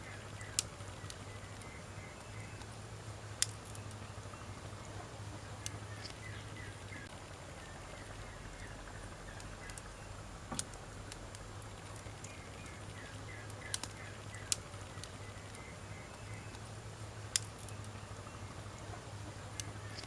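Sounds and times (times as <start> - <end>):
steady low hum: 0.0 - 20.0
wood fire crackling and popping: 0.0 - 20.0.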